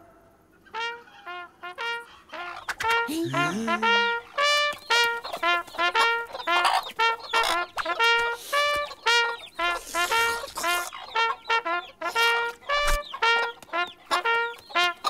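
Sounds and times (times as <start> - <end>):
honking brass-like notes: 0.6 - 15.0.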